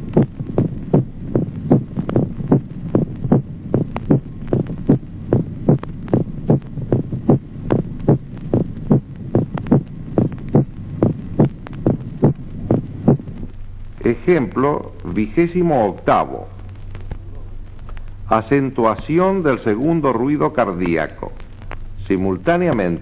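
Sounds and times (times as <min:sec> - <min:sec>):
heartbeat thumps: 0:00.0 - 0:23.0
steady low hum: 0:00.0 - 0:23.0.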